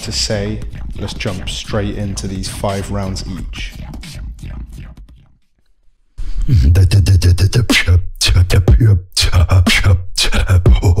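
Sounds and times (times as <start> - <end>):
beatboxing: 0.0 - 5.4, 6.2 - 11.0.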